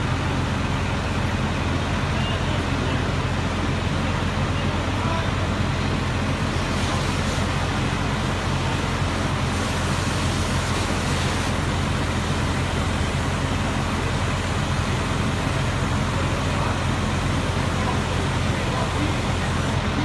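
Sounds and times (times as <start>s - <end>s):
fire engine idling: 0.0s - 20.0s.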